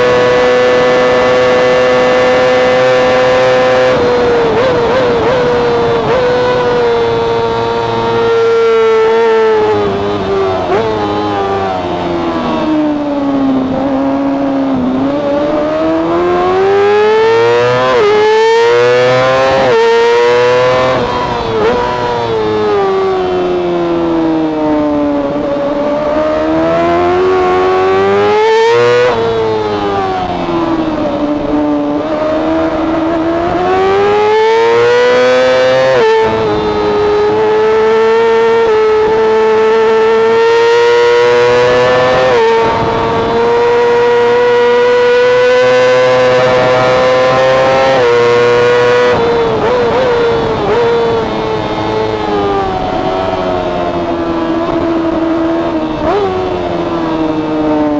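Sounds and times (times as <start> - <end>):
racing motorcycle engine: 0.0 - 57.9.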